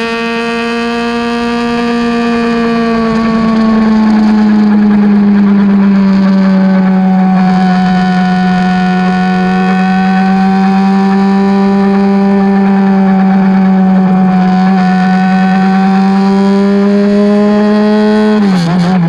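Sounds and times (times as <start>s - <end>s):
loud motorcycle engine riding: 0.0s - 19.0s.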